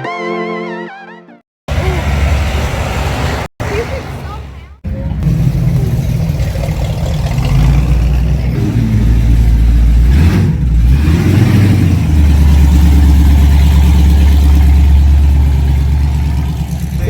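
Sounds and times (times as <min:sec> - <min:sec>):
car engine rumbling and revving: 0:01.7 - 0:17.0.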